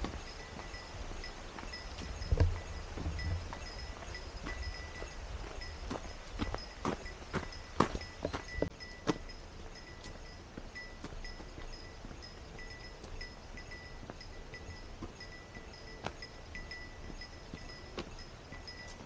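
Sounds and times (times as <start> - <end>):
small bell jingling: 0.0 - 19.0.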